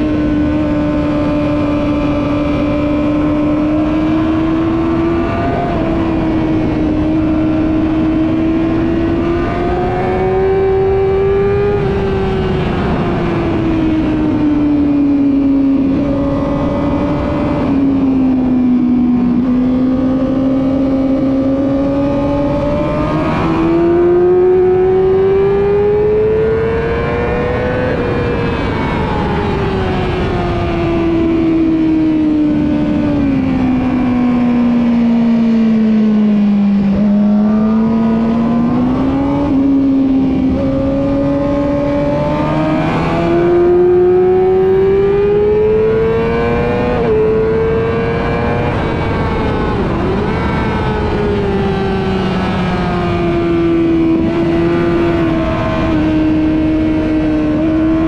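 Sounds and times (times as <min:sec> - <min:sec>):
motorcycle engine at high revs: 0:00.0 - 0:58.0
rush of wind: 0:00.0 - 0:58.0.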